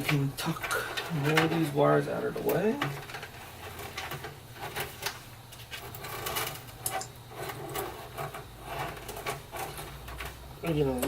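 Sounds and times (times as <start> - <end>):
low steady hum: 0.0 - 11.0
plastic cables clicking and rubbing: 0.0 - 11.0.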